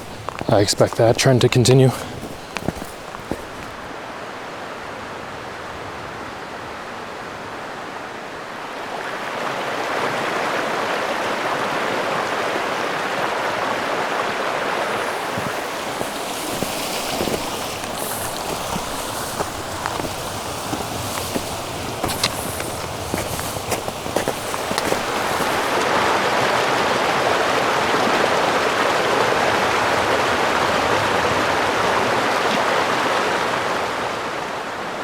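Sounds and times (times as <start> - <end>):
mountain stream rushing: 0.0 - 13.5, 14.5 - 35.0.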